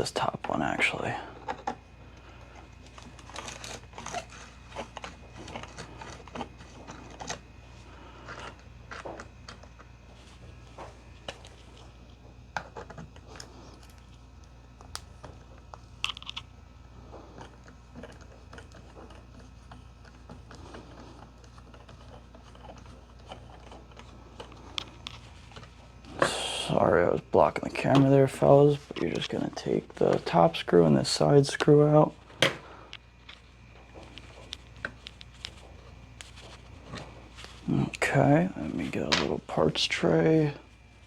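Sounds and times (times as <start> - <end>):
faint low hum: 0.0 - 41.0.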